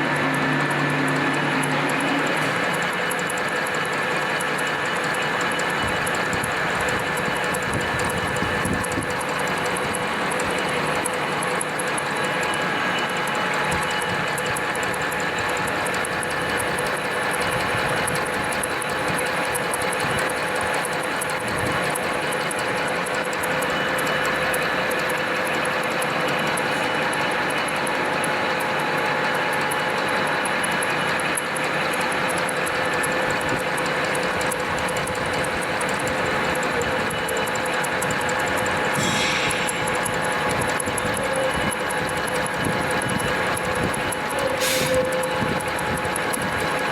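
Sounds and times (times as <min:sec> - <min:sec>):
gear whine: 0:00.0 - 0:46.9
metal lathe whirring: 0:00.0 - 0:46.9
fine rapid ticking: 0:00.1 - 0:46.9.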